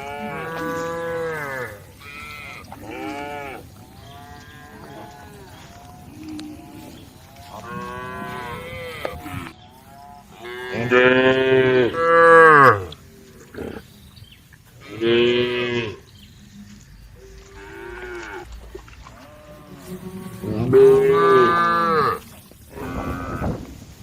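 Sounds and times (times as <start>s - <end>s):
cows mooing: 0.0s - 13.8s, 14.8s - 16.1s, 17.2s - 23.8s.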